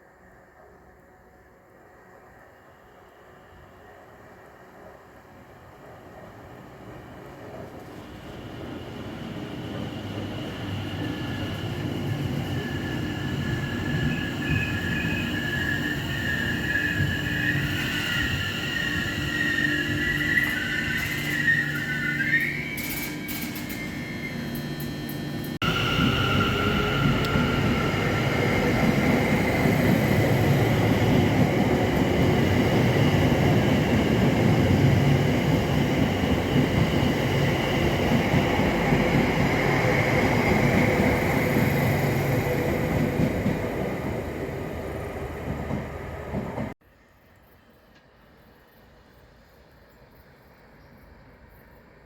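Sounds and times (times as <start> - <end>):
train wheel and engine noise: 0.0 - 52.0.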